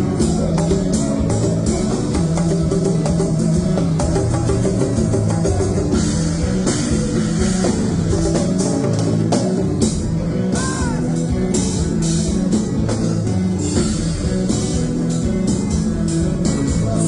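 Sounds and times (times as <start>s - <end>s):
band playing: 0.0s - 17.0s
drum kit beat: 0.0s - 17.0s
guitar: 0.0s - 17.0s.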